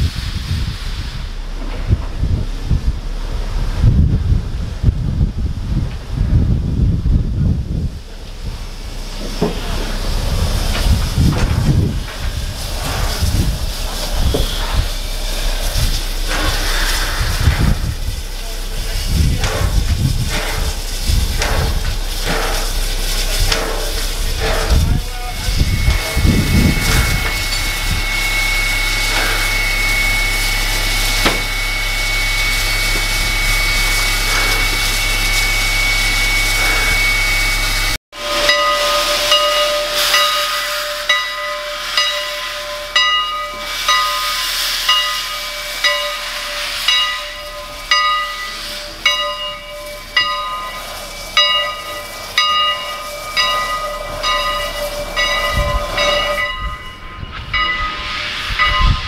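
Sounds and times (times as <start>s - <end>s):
steam locomotive hissing: 0.0s - 59.0s
locomotive bell ringing: 8.7s - 59.0s.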